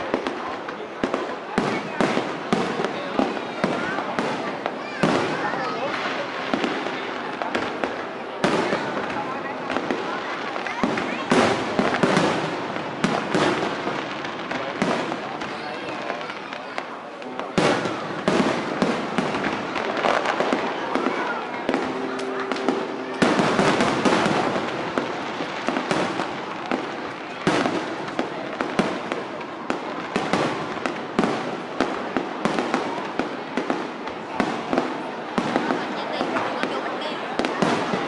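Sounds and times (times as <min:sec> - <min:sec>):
crowd voices: 0:00.0 - 0:38.0
fireworks bangs and crackling: 0:00.0 - 0:38.0.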